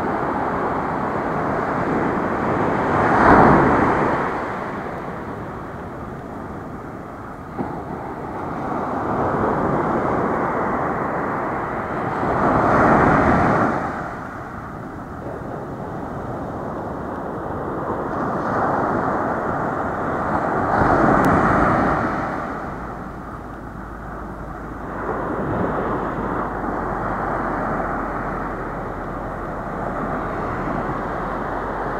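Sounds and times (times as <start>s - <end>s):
waves breaking on beach: 0.0s - 31.9s.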